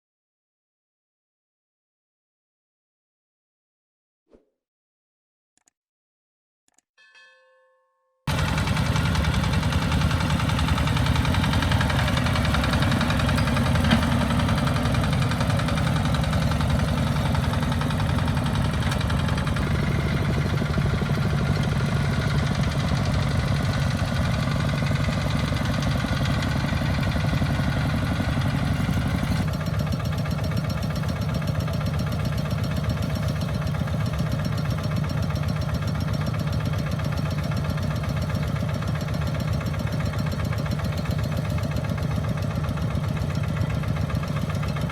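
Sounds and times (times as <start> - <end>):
tractor engines knocking: 8.3 - 44.9.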